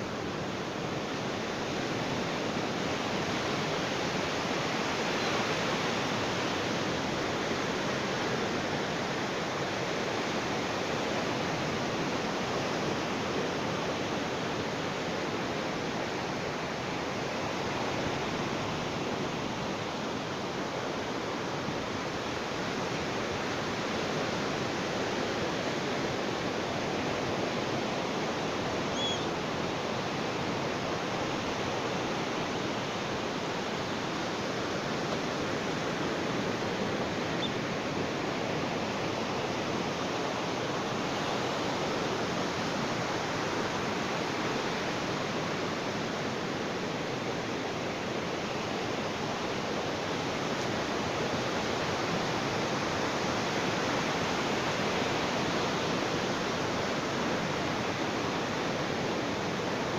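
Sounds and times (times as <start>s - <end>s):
ocean waves on a beach: 0.0s - 59.9s.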